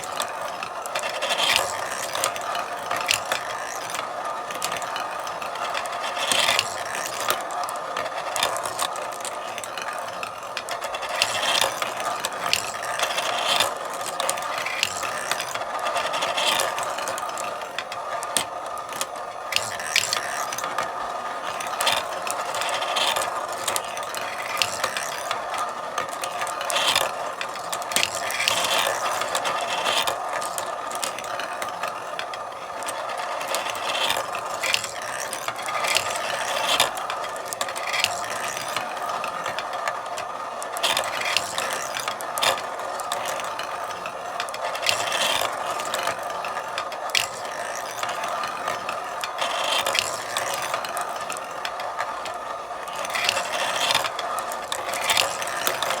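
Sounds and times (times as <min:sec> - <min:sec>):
marbles rolling and clicking: 0:00.0 - 0:56.0.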